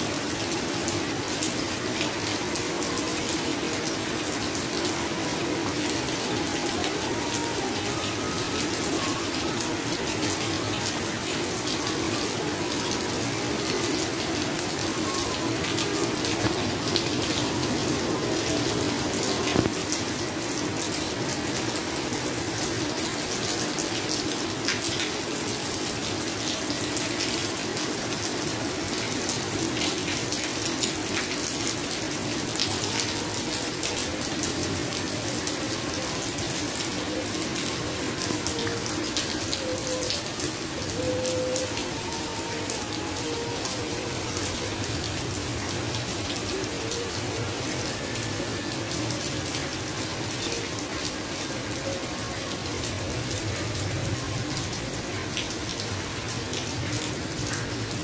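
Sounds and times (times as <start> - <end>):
heavy rain splashing on tiles: 0.0 - 58.0.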